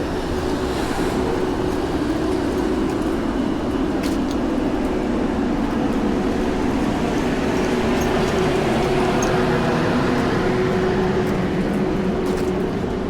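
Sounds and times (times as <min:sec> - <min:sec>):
rumble of motor vehicles: 0:00.0 - 0:13.0.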